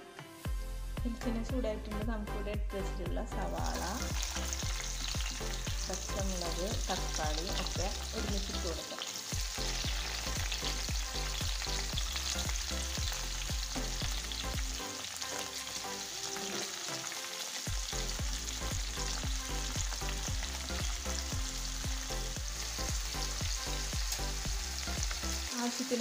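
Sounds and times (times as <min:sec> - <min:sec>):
vegetables sizzling in oil: 0:03.4 - 0:26.0.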